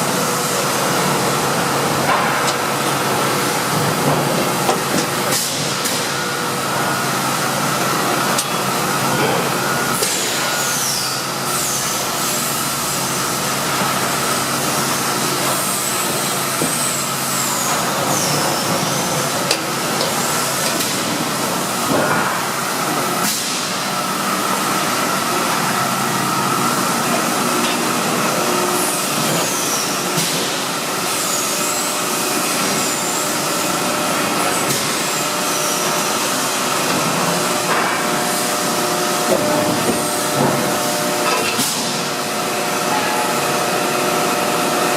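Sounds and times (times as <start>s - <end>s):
hydraulic pump motor hum: 0.0s - 44.9s.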